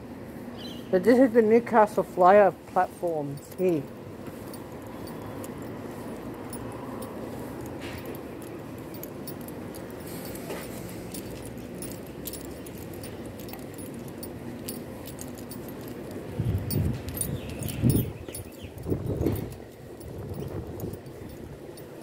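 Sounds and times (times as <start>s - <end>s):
railway platform background noise: 0.0s - 22.0s
faint footsteps: 3.4s - 22.0s.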